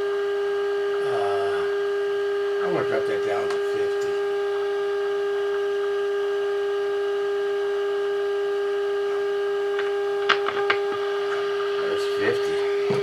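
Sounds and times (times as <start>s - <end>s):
radio test tone: 0.9s - 13.0s.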